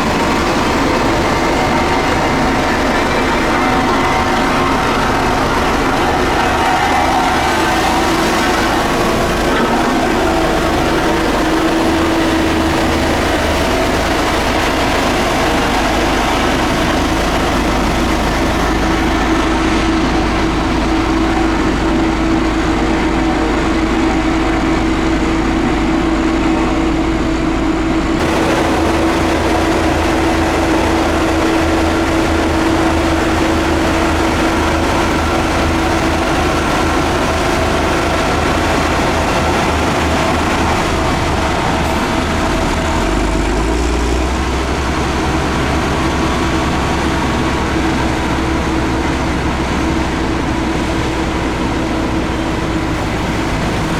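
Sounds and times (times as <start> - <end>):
heavy construction machinery engines: 0.0 - 53.9.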